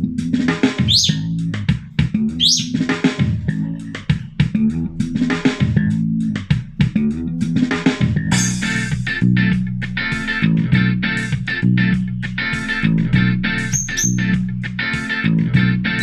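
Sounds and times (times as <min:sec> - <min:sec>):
pop-rock song from speaker: 0:00.0 - 0:16.0.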